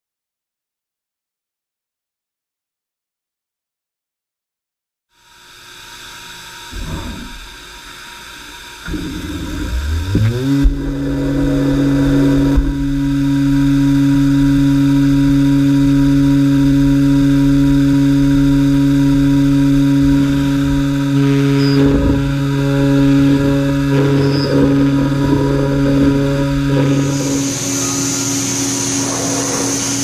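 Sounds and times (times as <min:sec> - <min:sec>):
router spindle motor humming and whining: 0:05.3 - 0:30.0.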